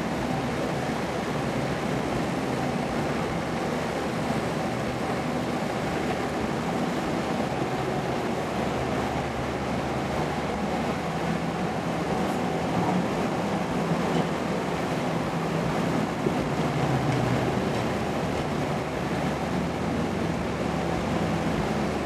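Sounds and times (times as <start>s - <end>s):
excavator diesel engine running: 0.0s - 22.0s
rushing floodwater: 0.0s - 22.0s.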